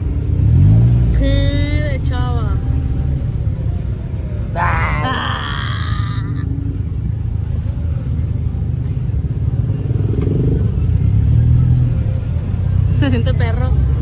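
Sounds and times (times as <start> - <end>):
car engine rumble: 0.0 - 14.0.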